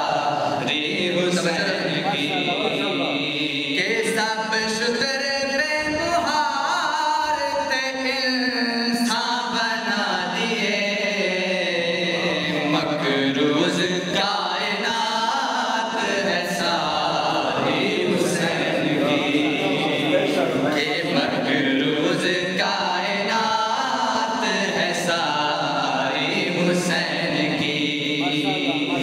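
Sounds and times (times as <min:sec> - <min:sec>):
men chanting into a microphone: 0:00.0 - 0:29.0.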